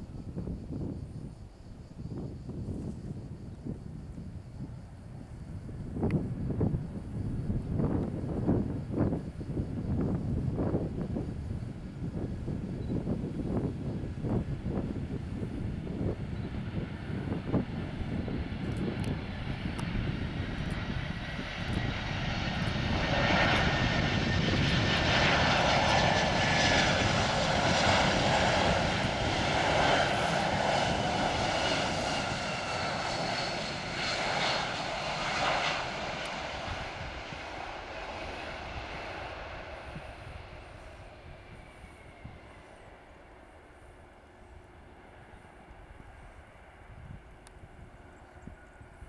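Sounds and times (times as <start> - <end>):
jet airliner passing by: 0.0 - 49.0.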